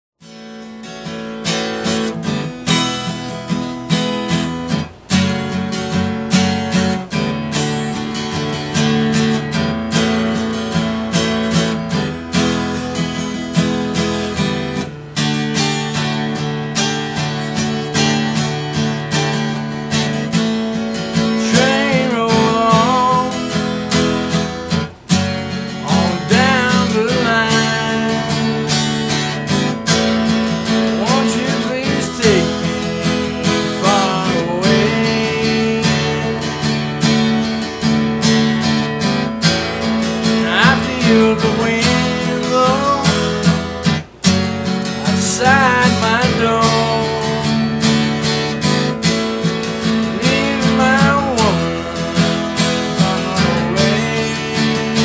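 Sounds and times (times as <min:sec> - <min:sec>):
acoustic guitar strumming: 0:00.2 - 0:55.0.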